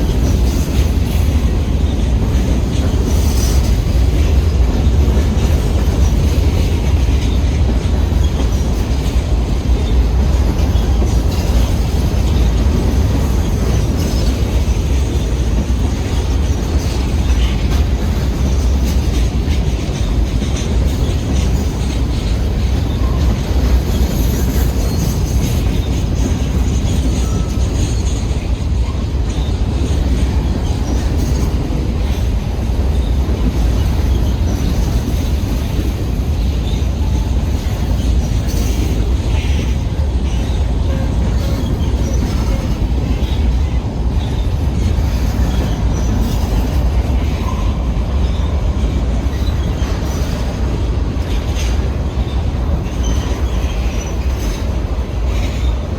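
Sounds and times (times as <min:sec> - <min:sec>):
freight train rumbling past: 0:00.0 - 0:55.9.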